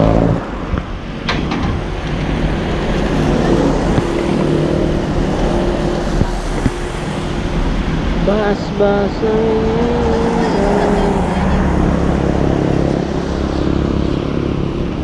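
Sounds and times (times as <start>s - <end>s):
traffic on wet road: 0.0s - 15.0s.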